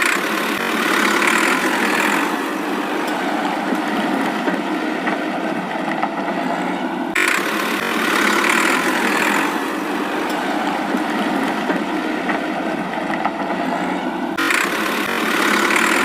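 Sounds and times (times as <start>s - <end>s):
toy tractor engine running: 0.0s - 16.0s.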